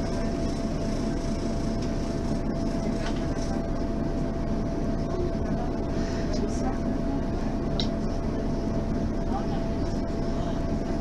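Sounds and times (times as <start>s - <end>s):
bus engine drone: 0.0s - 11.0s
constant whine: 0.0s - 11.0s.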